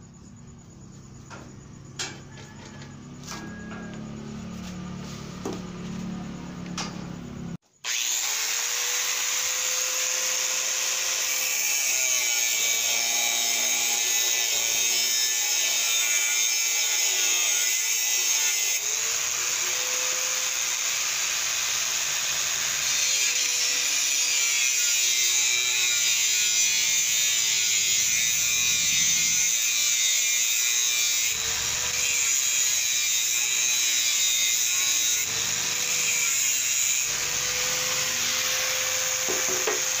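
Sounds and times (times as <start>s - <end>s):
angle grinder cutting metal: 7.8s - 40.0s.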